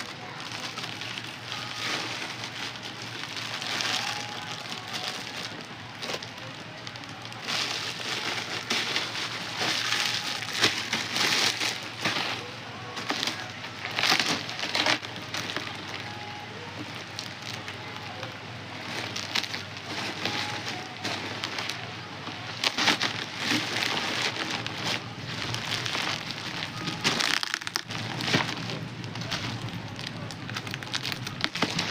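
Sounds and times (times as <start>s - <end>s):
plastic packaging rustling: 0.0s - 31.9s.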